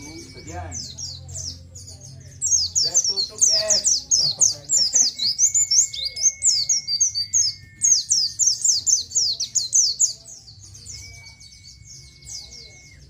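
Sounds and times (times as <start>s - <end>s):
bird chirping high downward calls: 0.0s - 13.0s.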